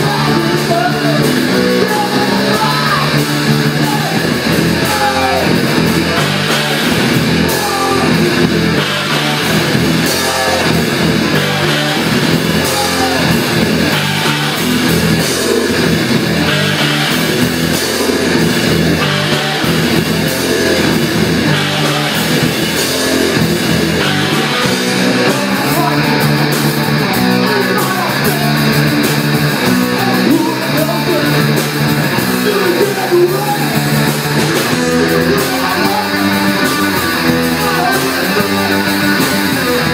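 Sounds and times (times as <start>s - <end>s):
rock band playing heavy punk-metal: 0.0s - 39.9s.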